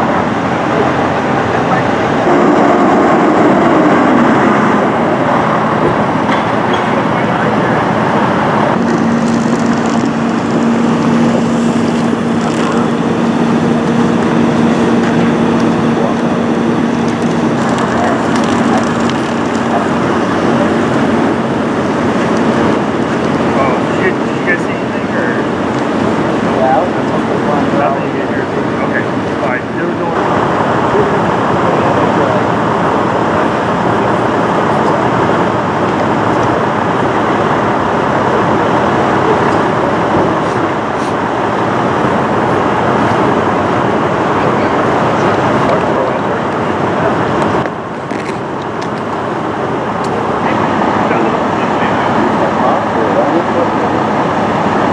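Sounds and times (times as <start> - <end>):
engine idling: 0.0 - 54.9
street noise: 0.0 - 54.9.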